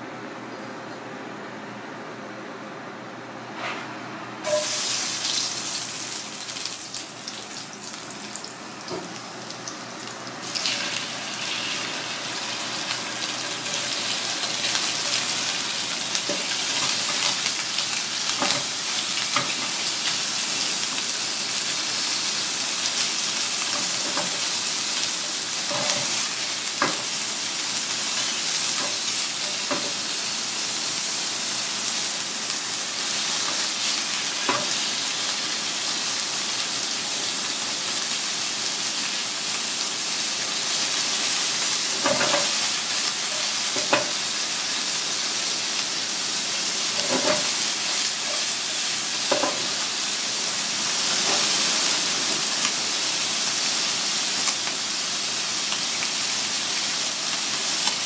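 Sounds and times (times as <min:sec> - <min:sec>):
food sizzling in hot oil: 0:04.4 - 0:58.0.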